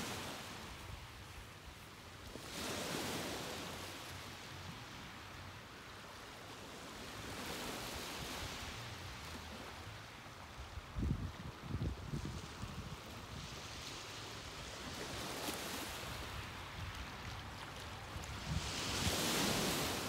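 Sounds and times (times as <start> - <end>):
ocean waves washing in: 0.0 - 20.0.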